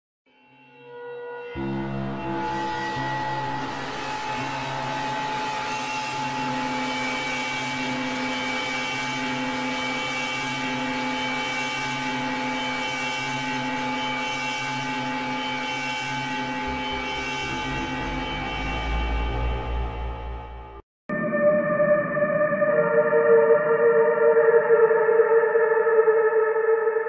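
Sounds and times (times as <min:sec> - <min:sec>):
eerie drone tones: 0:01.5 - 0:27.0.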